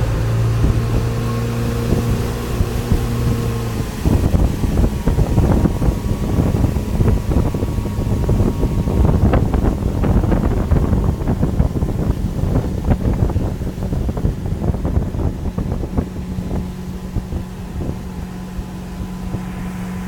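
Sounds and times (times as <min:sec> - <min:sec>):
boat engine running: 0:00.0 - 0:20.0
wind buffeting microphone: 0:00.0 - 0:20.0.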